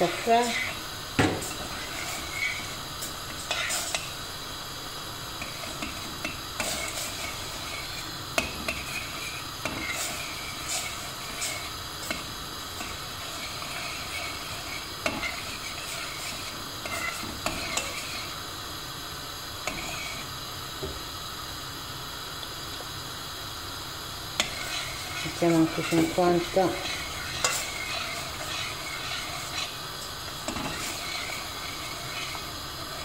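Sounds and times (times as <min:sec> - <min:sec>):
metal spoon stirring in a pot: 0:00.0 - 0:04.2, 0:05.4 - 0:18.4, 0:19.6 - 0:20.3, 0:24.4 - 0:33.0
steady hiss: 0:00.0 - 0:33.0.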